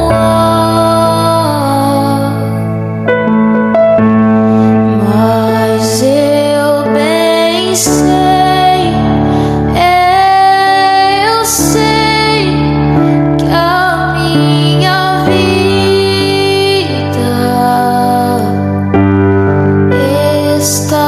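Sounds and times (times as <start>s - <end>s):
woman singing: 0.0s - 2.8s, 4.8s - 19.0s, 19.8s - 21.0s
sustained keyboard chords: 0.0s - 21.0s.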